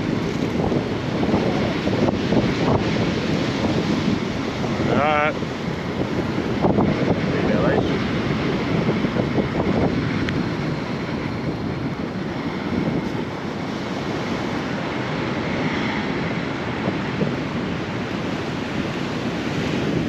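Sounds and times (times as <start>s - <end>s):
ocean surf washing onto beach: 0.0s - 20.0s
wind buffeting microphone: 0.0s - 20.0s.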